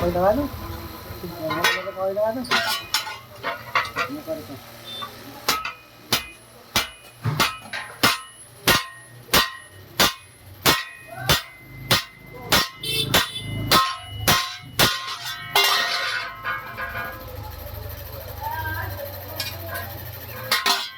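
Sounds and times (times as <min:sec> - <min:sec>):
hammer striking metal: 0:01.4 - 0:04.2, 0:04.9 - 0:17.6, 0:19.4 - 0:20.9.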